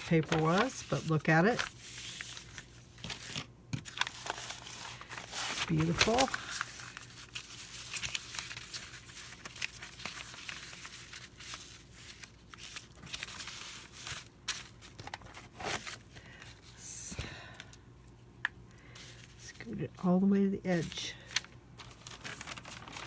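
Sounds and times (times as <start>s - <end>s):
faint steady hum: 0.0s - 23.0s
paper rustling and shuffling: 0.0s - 23.0s.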